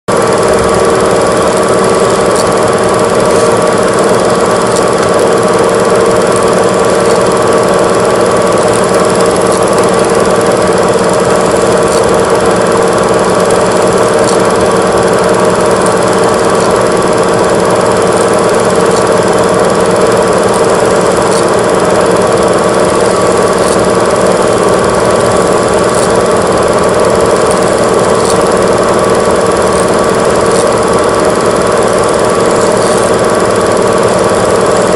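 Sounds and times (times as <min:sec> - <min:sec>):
film camera mechanical rattle: 0:00.2 - 0:34.9.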